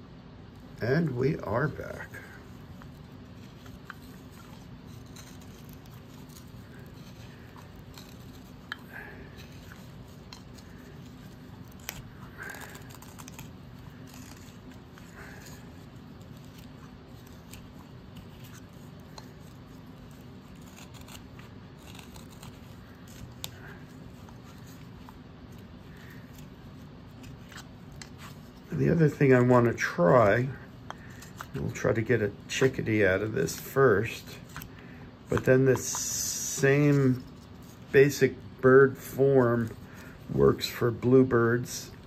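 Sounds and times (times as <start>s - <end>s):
low steady hum: 0.0s - 42.0s
carving knife scraping wood: 0.8s - 38.6s.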